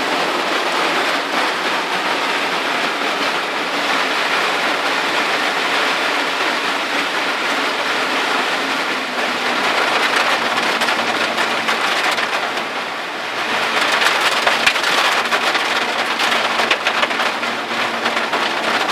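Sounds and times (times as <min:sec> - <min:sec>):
heavy rain pouring: 0:00.0 - 0:18.9
sharp raindrop hits: 0:00.0 - 0:18.9.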